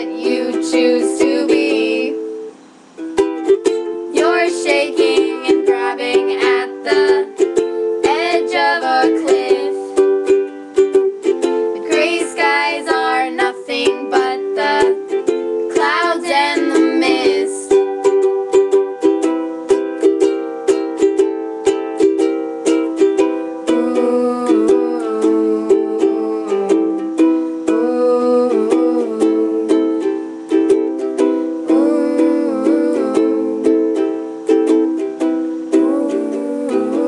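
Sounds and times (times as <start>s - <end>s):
strummed acoustic string instrument: 0.0s - 37.0s.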